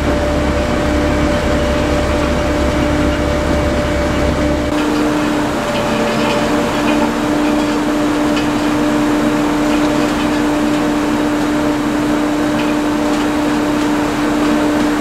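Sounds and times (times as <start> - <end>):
farm machinery droning: 0.0 - 15.0.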